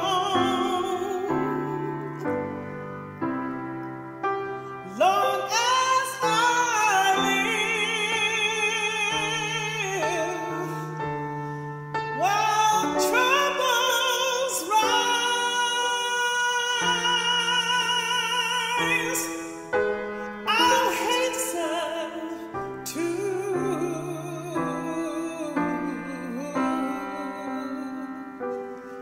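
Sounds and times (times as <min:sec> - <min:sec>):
woman singing a hymn: 0:00.0 - 0:02.7, 0:04.8 - 0:29.0
piano chords: 0:00.0 - 0:29.0.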